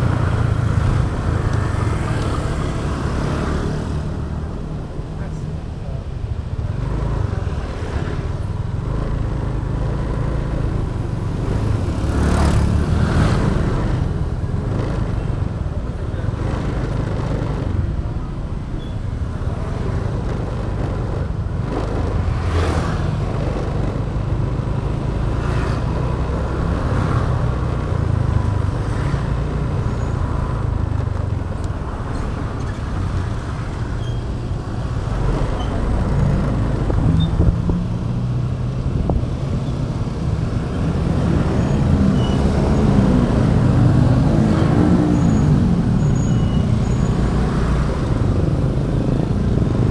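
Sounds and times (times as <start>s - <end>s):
motorbike engine and road rumble: 0.0s - 49.9s
vehicles passing: 0.0s - 49.9s.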